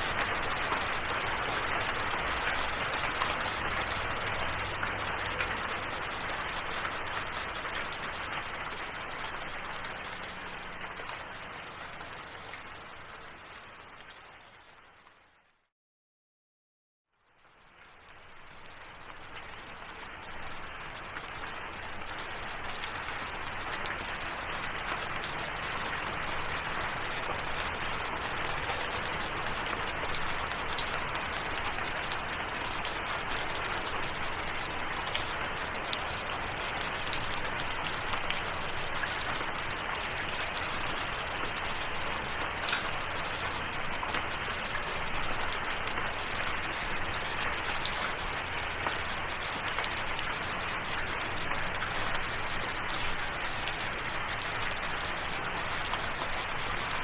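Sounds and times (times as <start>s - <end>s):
raindrops ticking on surface: 0.0s - 14.3s, 17.3s - 57.0s
steady rainfall: 0.0s - 15.3s, 17.4s - 57.0s.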